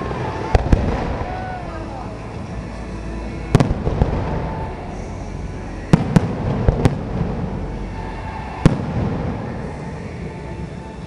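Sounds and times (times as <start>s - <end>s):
rumbling echo: 0.0s - 11.0s.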